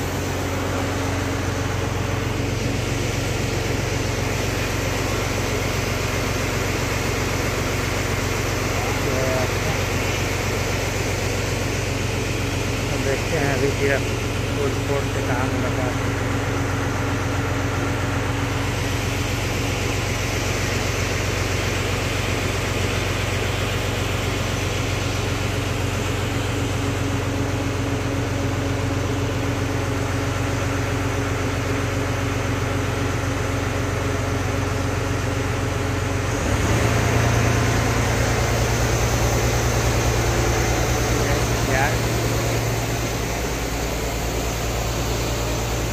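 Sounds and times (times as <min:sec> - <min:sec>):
ferry engine droning: 0:00.0 - 0:45.9.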